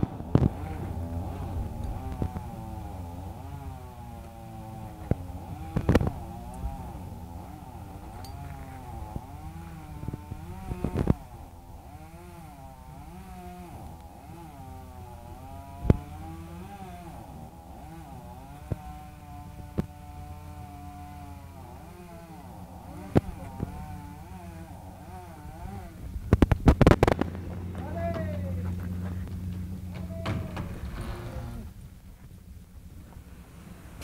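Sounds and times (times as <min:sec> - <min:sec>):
chainsaw cutting: 0:00.0 - 0:31.8.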